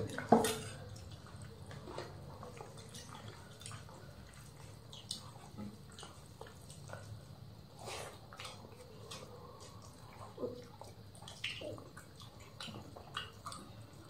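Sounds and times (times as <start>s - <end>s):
low steady hum: 0.0s - 14.0s
wet chewing smacks: 0.0s - 14.0s.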